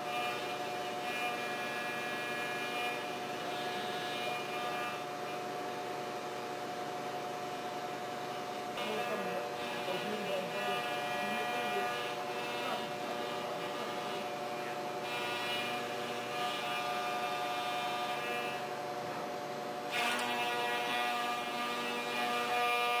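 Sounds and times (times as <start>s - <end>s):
milling machine whine: 0.0s - 23.0s.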